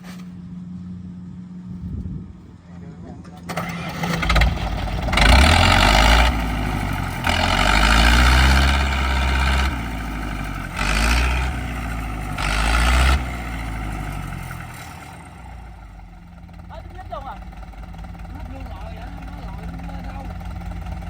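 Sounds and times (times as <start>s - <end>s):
harvester engine revving hard: 3.4s - 21.0s.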